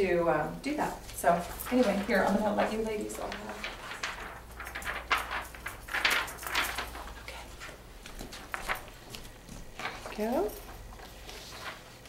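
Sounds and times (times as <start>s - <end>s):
paper rustling: 0.8s - 12.0s.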